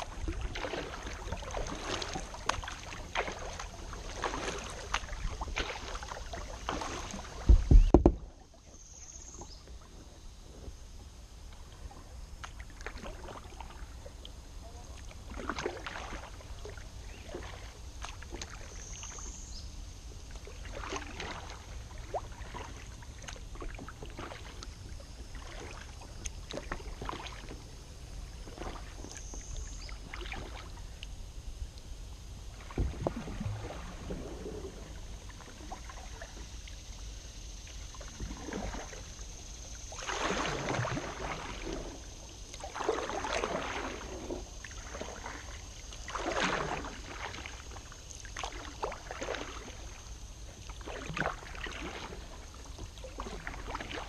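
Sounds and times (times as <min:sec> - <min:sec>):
paddle splashing in water: 0:00.0 - 0:31.1, 0:32.4 - 0:54.0.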